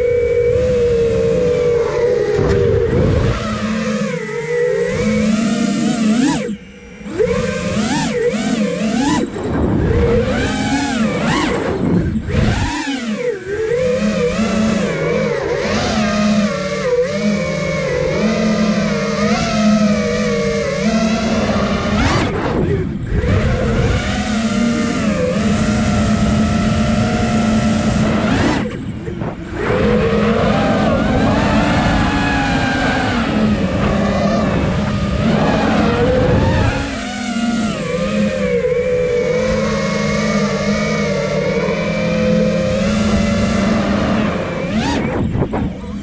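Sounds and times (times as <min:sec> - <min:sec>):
drone motors and propellers whining: 0:00.0 - 0:46.0.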